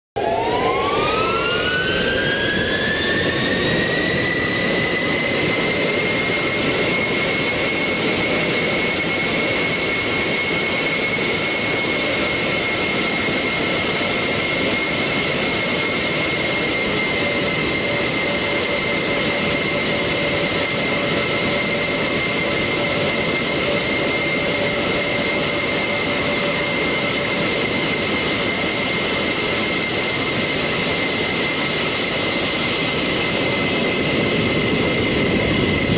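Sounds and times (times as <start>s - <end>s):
jet engines spooling up: 0.2s - 35.9s.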